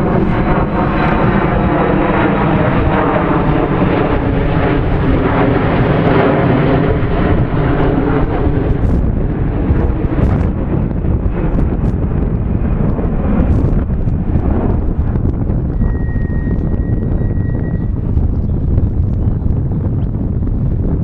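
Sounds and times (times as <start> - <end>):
engine-like drone: 0.0 - 21.0
wind buffeting microphone: 0.0 - 21.0.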